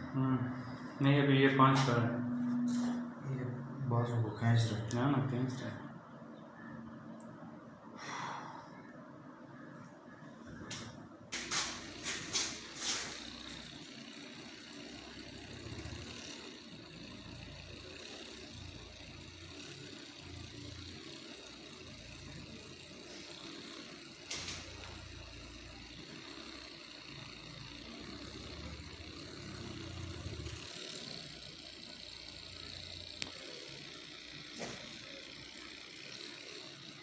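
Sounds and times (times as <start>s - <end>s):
machine hum: 0.0s - 37.0s
thin high whine: 0.0s - 37.0s.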